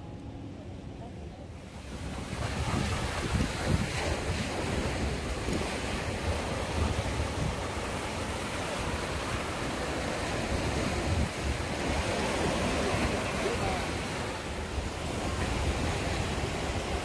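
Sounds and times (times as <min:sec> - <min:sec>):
wind rumbling on microphone: 0:00.0 - 0:17.0
sea waves breaking on rocks: 0:01.7 - 0:17.0.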